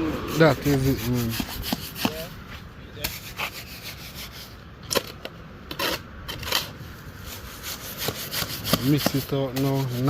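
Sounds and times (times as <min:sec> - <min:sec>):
tool scraping wet mortar: 0:00.0 - 0:02.3, 0:03.0 - 0:05.1, 0:05.7 - 0:10.0.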